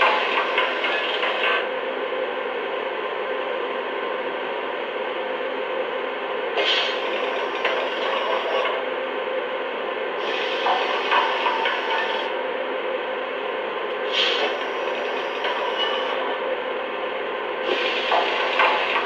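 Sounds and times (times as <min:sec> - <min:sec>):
model train hum and rattle: 0:00.0 - 0:19.0.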